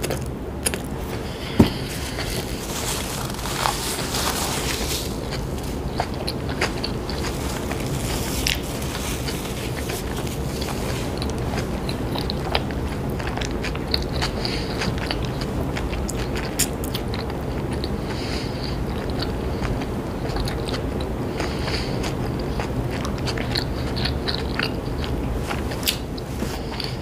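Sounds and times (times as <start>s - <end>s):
low background hum: 0.0s - 27.0s
chewing with wet mouth clicks: 5.2s - 27.0s.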